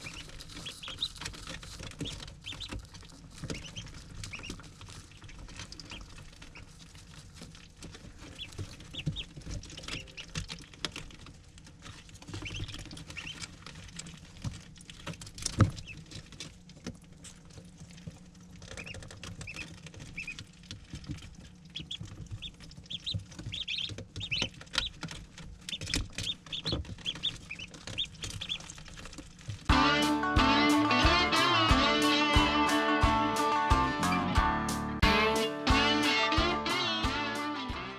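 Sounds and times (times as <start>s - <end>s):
ducklings peeping: 0.0s - 16.5s, 17.3s - 37.9s.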